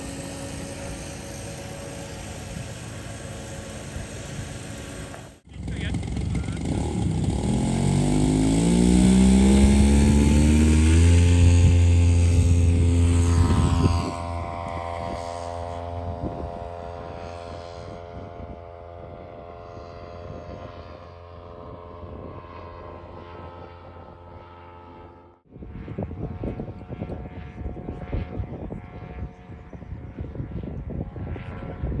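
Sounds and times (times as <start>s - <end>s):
model plane engine droning: 0.0s - 32.0s.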